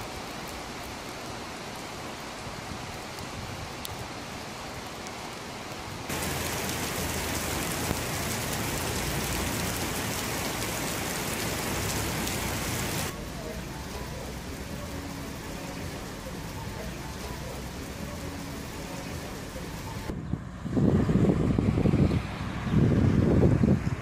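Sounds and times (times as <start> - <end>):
heavy rain splashing on pavement: 0.0 - 20.1
rain falling: 0.0 - 20.1.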